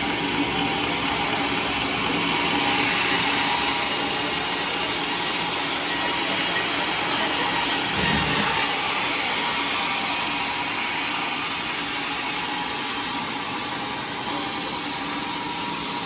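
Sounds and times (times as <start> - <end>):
power saw running: 0.0 - 16.0.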